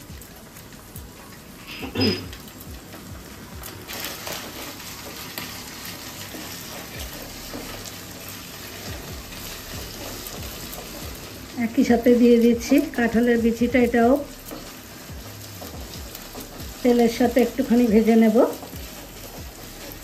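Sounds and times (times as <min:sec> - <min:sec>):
paste sizzling in oil: 0:00.0 - 0:20.0.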